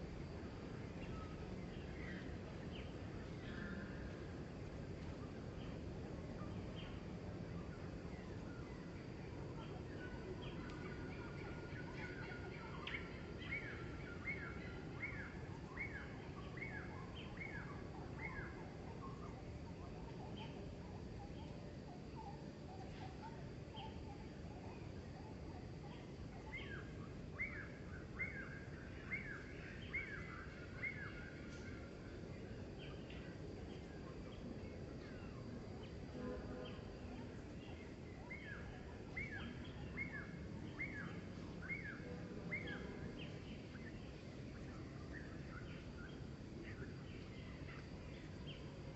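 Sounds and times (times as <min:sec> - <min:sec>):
low outdoor background: 0:00.0 - 0:48.9.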